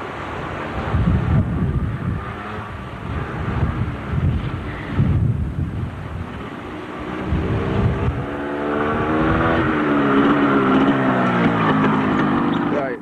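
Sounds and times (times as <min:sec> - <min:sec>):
low gusty rumble: 0:00.0 - 0:13.0
motorcycle engine running: 0:00.8 - 0:13.0.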